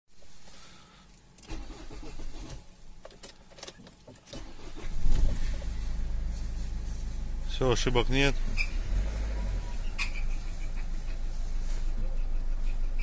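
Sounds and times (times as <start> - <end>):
diesel engine starting and running: 1.4 - 3.4, 4.2 - 13.0.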